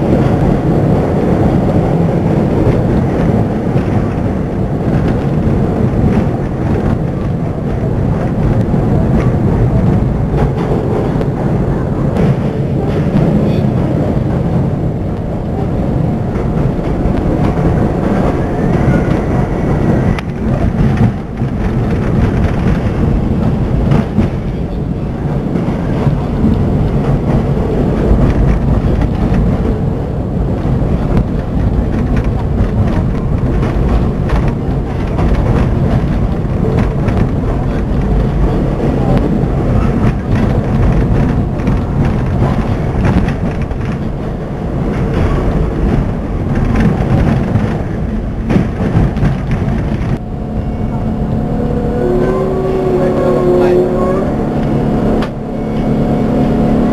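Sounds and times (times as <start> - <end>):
wheels clicking over rails: 0.0 - 51.4
subway train rumbling: 0.0 - 56.9.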